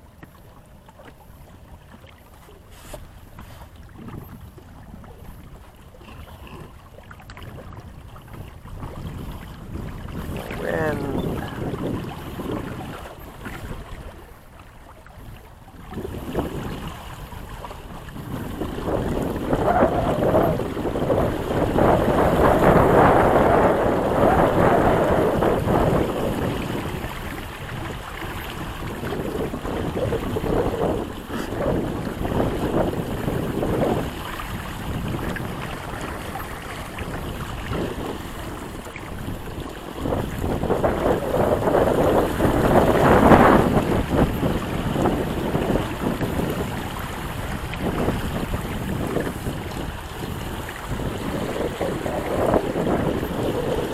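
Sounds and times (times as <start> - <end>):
water sloshing against hull: 0.0 - 53.9
wind buffeting microphone: 0.0 - 53.9.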